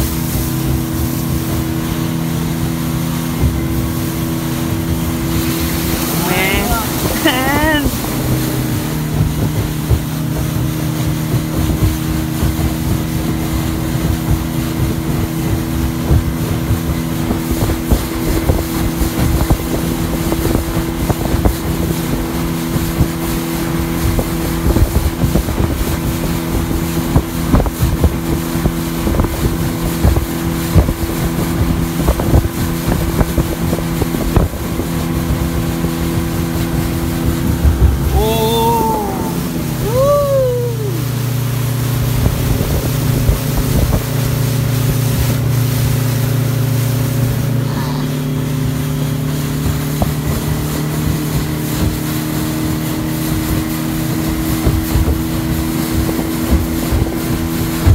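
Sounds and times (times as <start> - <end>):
speedboat engine running: 0.0 - 57.9.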